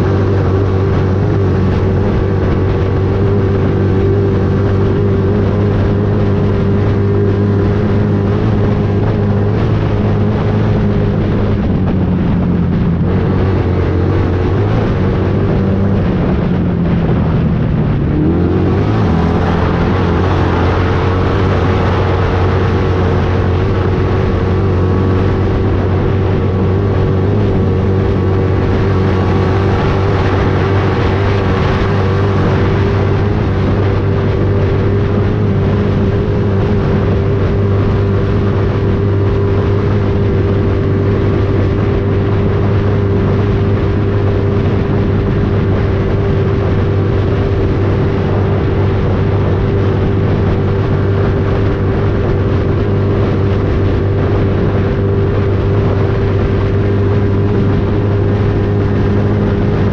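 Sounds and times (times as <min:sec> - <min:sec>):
steady engine drone: 0:00.0 - 0:59.9.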